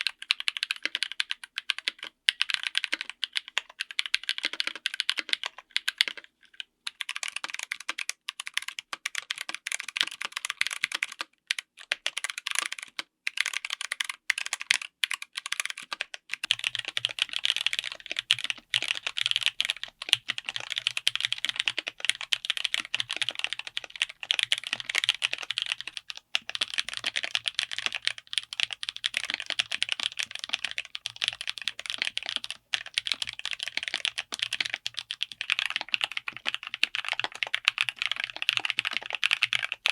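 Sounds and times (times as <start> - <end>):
mechanical keyboard typing: 0.0 - 6.3, 6.9 - 39.9.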